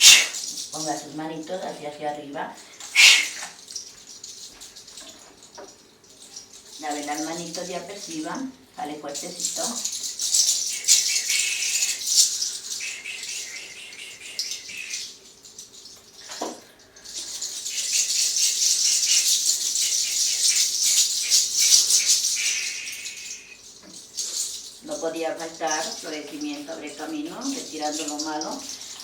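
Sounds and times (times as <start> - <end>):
dry hissing rattle: 0.0 - 1.9, 2.5 - 29.0.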